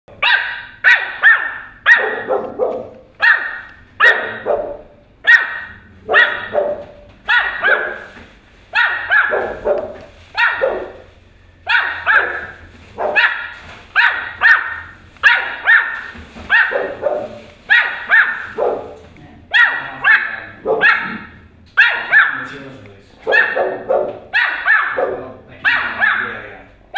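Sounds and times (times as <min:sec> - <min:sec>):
puppy barking in high yaps: 0:00.2 - 0:11.0, 0:11.6 - 0:22.5, 0:23.3 - 0:26.4.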